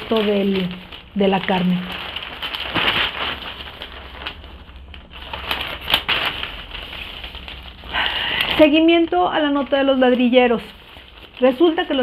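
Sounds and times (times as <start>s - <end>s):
newspaper pages rustling: 0.0s - 12.0s.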